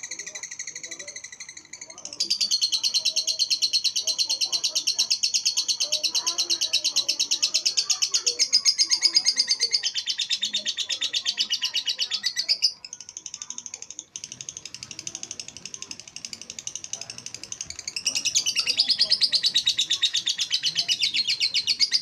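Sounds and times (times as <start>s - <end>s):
lovebird trilling: 0.1s - 22.0s.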